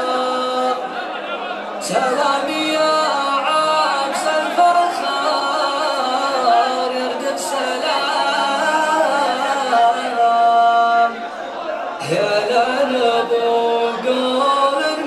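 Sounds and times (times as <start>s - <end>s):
men chanting in chorus: 1.8s - 11.4s, 12.0s - 15.0s.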